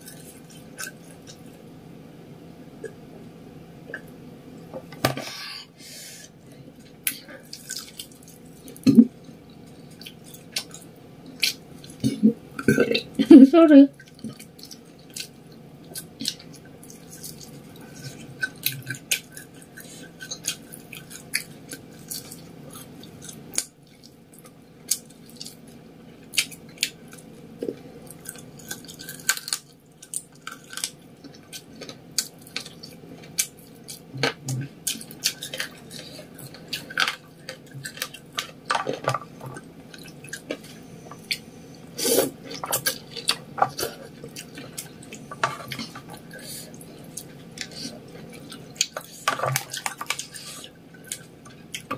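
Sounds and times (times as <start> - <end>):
chewing fried snacks: 0.0 - 1.7, 6.8 - 13.2, 13.9 - 51.9.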